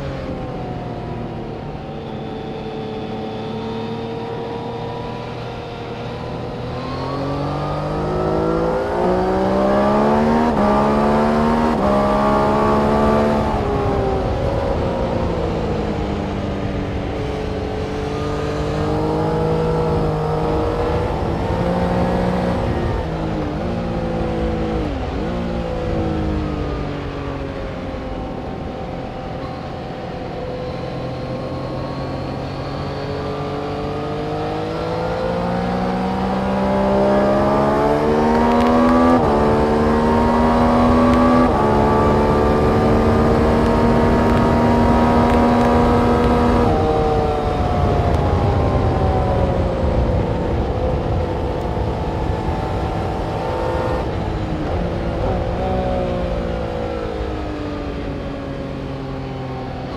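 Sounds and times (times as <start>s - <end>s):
motorcycle engine accelerating hard: 0.0s - 59.9s
wind and road noise: 0.0s - 59.9s.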